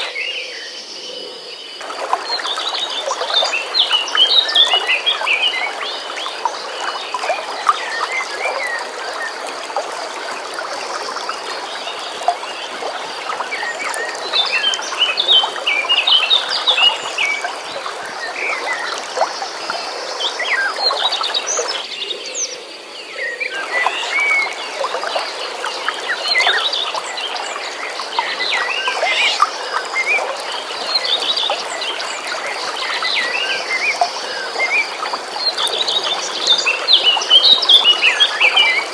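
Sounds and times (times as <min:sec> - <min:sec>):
flowing water: 0:00.0 - 0:00.2, 0:00.8 - 0:38.9
birds chirping: 0:00.0 - 0:38.9.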